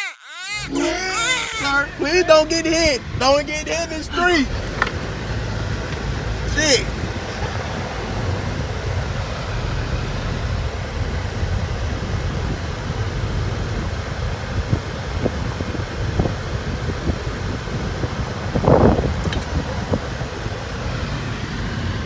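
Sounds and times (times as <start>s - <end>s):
low rumble of vehicle noise: 0.6s - 22.0s
wind buffeting microphone: 0.8s - 22.0s.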